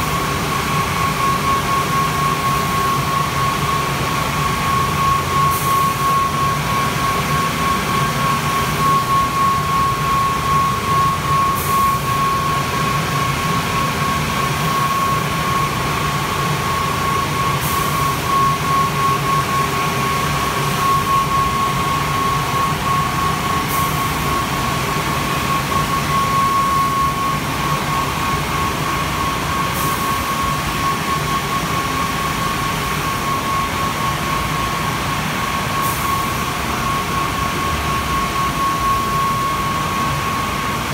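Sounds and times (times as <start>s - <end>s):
car wash drying blowers: 0.0s - 40.9s.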